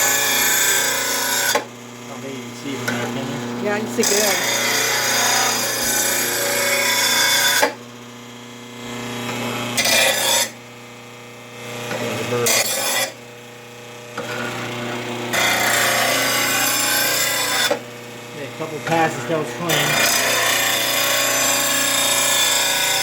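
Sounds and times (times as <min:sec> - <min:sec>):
blade grinding on wheel: 0:00.0 - 0:07.8, 0:08.8 - 0:10.6, 0:11.7 - 0:13.2, 0:14.0 - 0:23.0
sharpener motor humming: 0:00.0 - 0:23.0.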